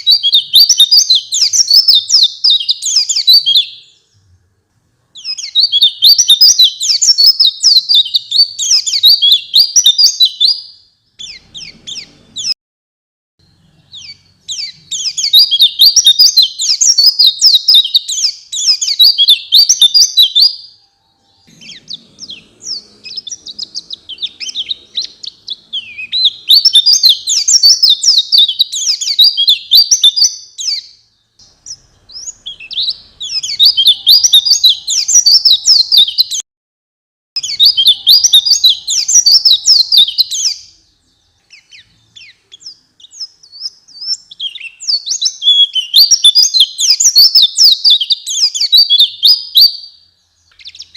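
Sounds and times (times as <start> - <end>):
bird twittering chirps: 0.0 - 12.6, 13.4 - 36.4, 37.4 - 50.9.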